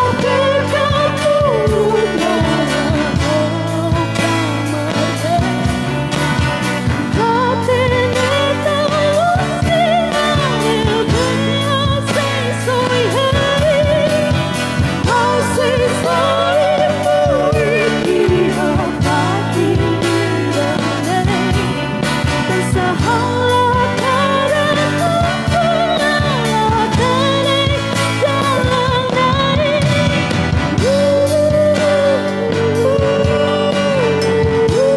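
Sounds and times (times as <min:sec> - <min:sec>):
rock band playing: 0:00.0 - 0:34.9
woman singing: 0:00.0 - 0:34.9.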